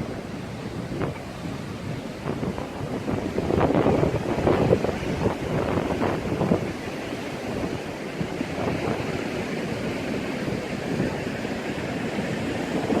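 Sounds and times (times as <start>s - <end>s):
ocean surf: 0.0s - 13.0s
wind on microphone: 0.0s - 13.0s.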